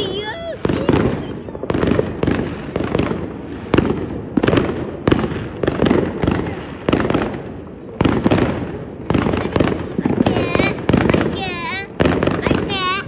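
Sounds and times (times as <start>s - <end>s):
fireworks banging and crackling: 0.0s - 13.0s.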